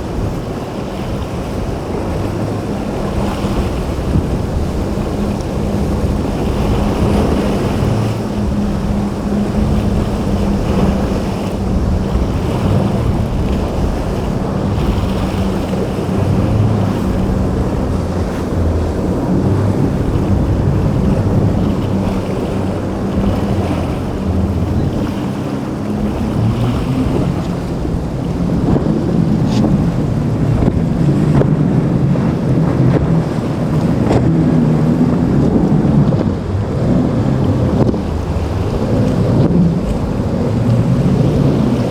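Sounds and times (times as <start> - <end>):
boat engines running: 0.0 - 41.9
waves and surf: 0.0 - 41.9
wind blowing on microphone: 0.0 - 41.9.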